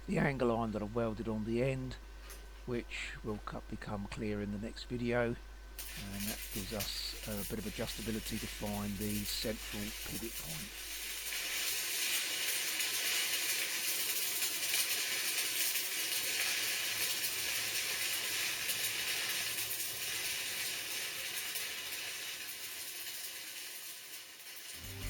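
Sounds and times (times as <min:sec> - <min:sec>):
arc welding crackling sizzle: 0:00.0 - 0:25.0.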